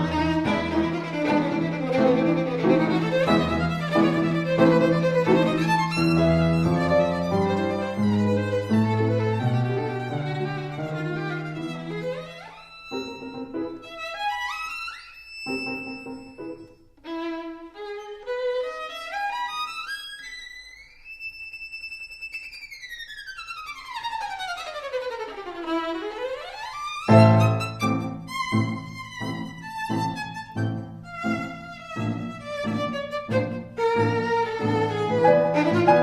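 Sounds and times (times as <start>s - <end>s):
violin music: 0.0s - 36.0s.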